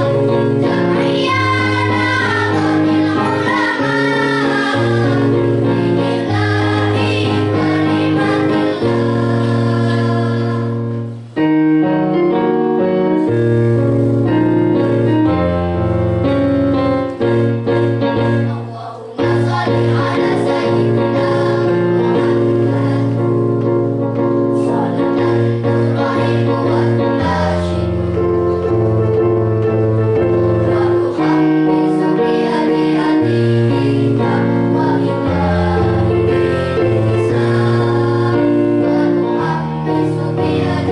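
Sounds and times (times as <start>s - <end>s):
children's choir singing: 0.0s - 11.2s, 17.7s - 23.8s, 24.5s - 29.3s, 30.2s - 40.9s
keyboard accompaniment: 0.0s - 40.9s.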